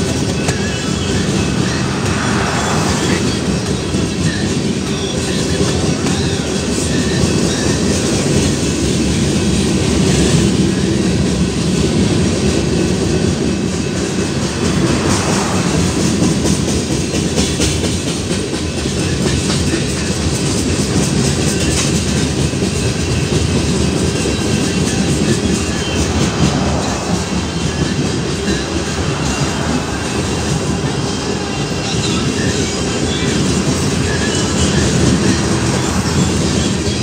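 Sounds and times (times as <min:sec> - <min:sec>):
freight train wheels rumbling on rails: 0:00.0 - 0:37.0.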